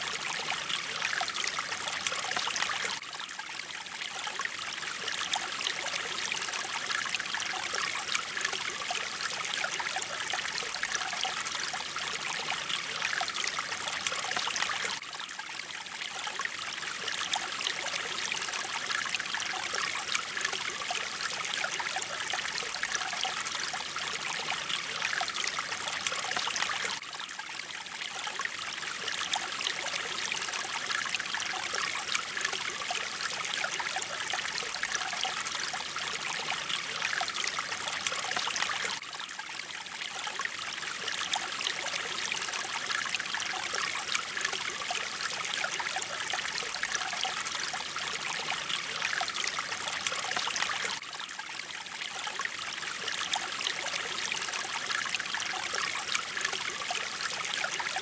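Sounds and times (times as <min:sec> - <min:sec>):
mountain stream flowing over stones: 0:00.0 - 0:58.0.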